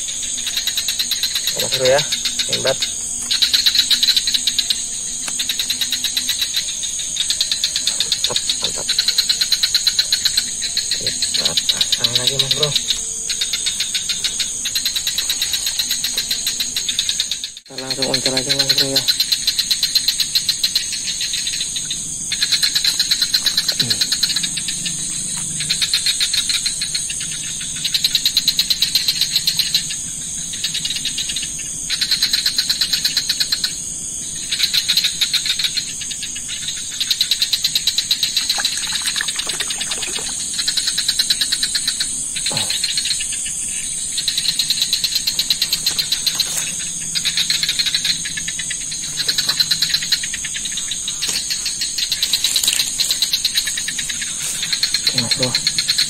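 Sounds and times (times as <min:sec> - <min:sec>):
high-pitched insect buzz: 0:00.0 - 0:56.0
insects trilling: 0:00.0 - 0:56.0.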